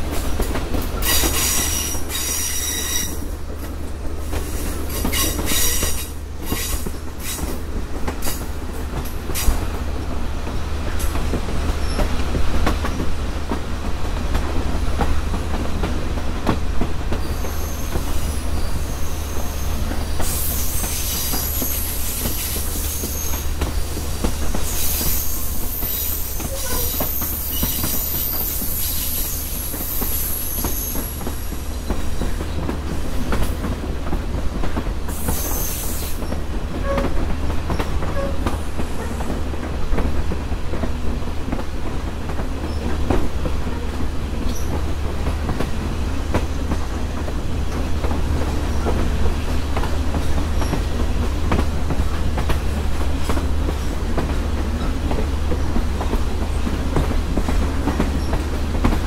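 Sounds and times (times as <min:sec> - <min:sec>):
train cars rumbling and rattling: 0:00.0 - 0:59.0.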